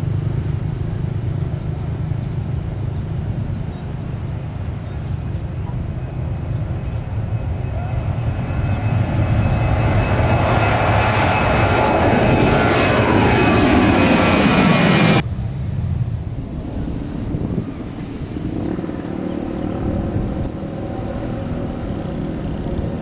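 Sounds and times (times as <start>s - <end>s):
airliner engines at take-off: 0.0s - 23.0s.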